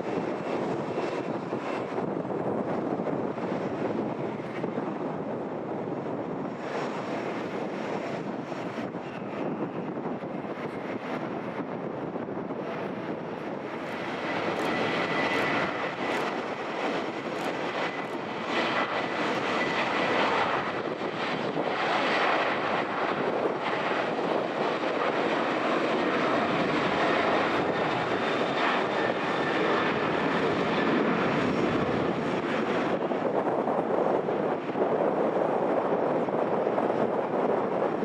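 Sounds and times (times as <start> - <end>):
jet engines roaring: 0.0 - 38.0.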